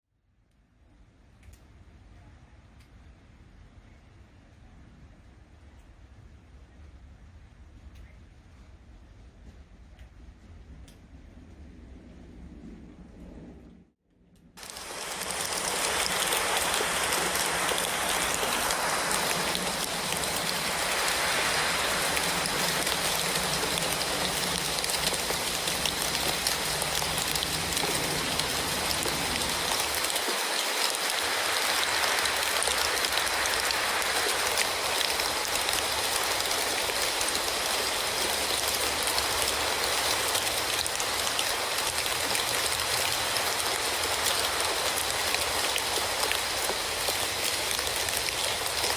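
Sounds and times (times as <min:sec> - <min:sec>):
steady rain falling: 0:00.7 - 0:13.7, 0:14.4 - 0:48.9.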